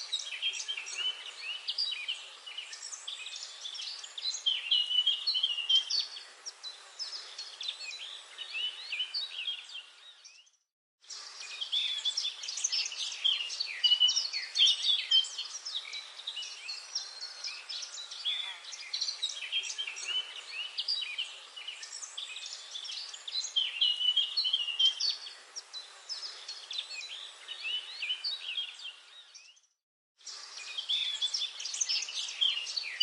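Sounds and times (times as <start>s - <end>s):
small birds chirping and trilling: 0.0s - 33.0s.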